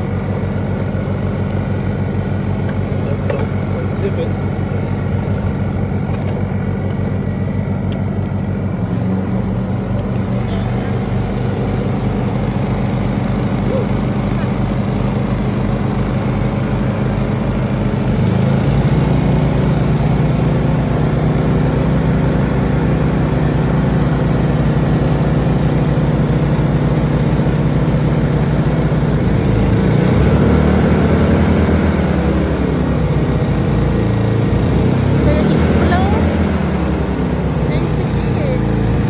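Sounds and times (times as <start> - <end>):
generators running: 0.0 - 39.0.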